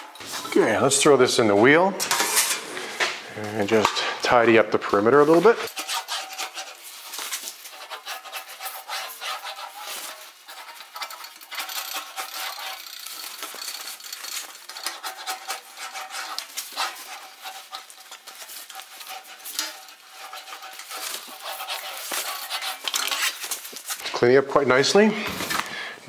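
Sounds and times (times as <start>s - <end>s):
sheet metal rattling and scraping: 2.0s - 24.1s.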